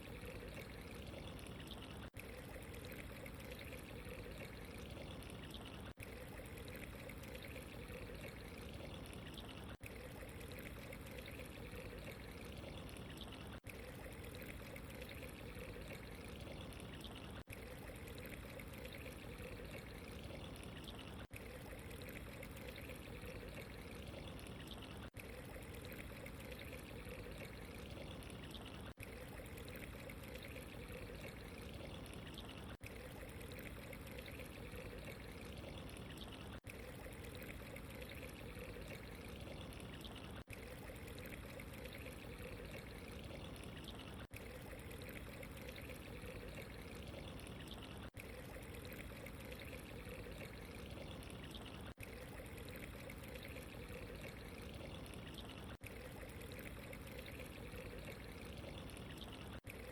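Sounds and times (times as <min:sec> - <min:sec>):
trickling running water: 0:00.0 - 0:59.9.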